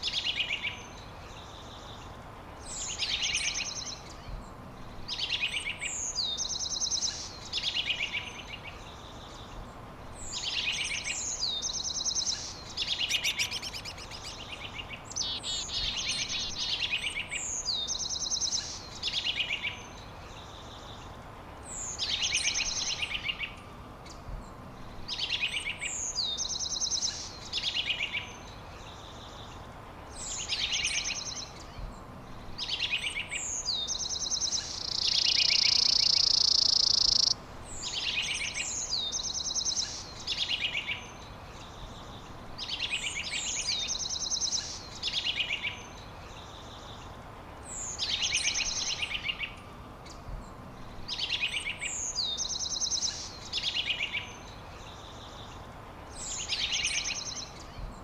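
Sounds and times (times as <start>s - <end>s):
songbird singing whistles and trills: 2.6s - 9.6s, 10.2s - 21.0s, 21.7s - 23.6s, 25.1s - 47.0s, 47.6s - 58.0s.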